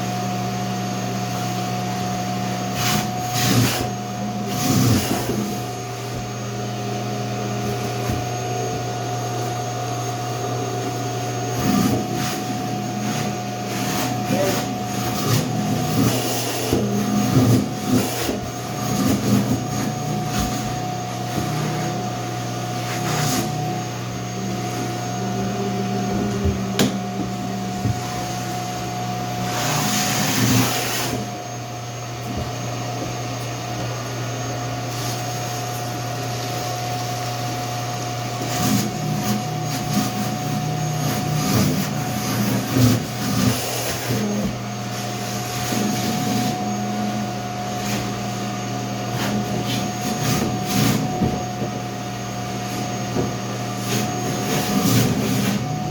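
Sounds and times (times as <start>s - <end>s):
shop vacuum motor running: 0.0s - 55.9s.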